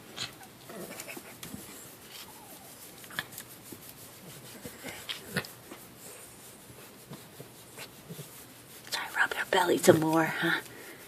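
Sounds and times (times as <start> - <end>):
hand rubbing fur: 0.4 - 11.0.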